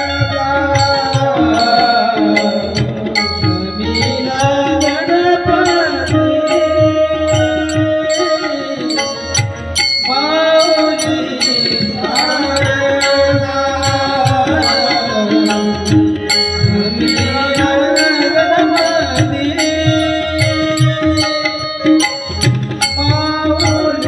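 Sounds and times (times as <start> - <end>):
man singing long sliding notes: 0.0 - 22.2.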